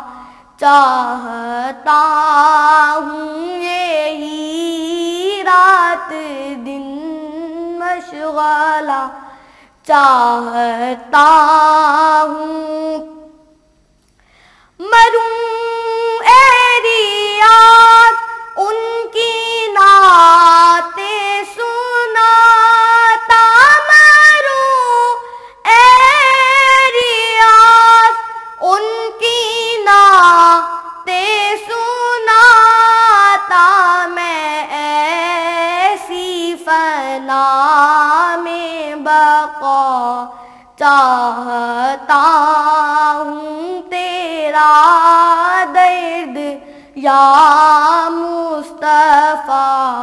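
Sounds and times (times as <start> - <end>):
boy singing unaccompanied: 0.0 - 9.2, 9.8 - 13.5, 14.8 - 50.0.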